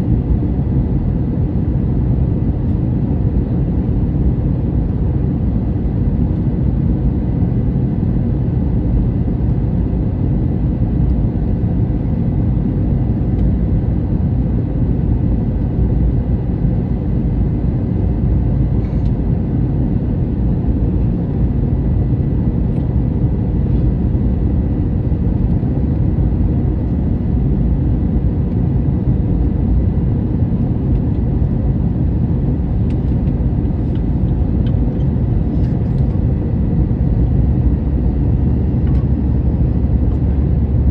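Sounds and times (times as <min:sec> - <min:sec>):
engine and airflow rumble: 0:00.0 - 0:40.9.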